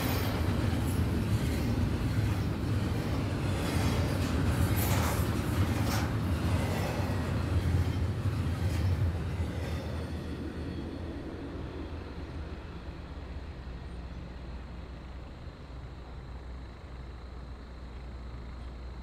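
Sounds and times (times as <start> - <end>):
train clanks: 0.0 - 16.5
train wheels rumbling on track: 0.0 - 19.0.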